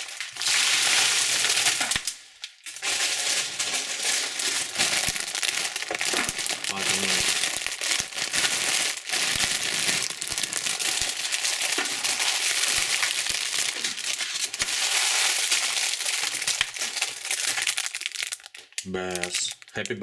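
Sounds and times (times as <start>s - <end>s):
candy wrappers crinkling: 0.0s - 20.0s.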